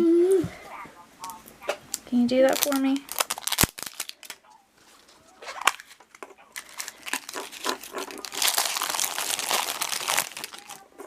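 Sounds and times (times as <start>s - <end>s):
plastic wrapper crinkling and tearing: 1.2s - 11.0s.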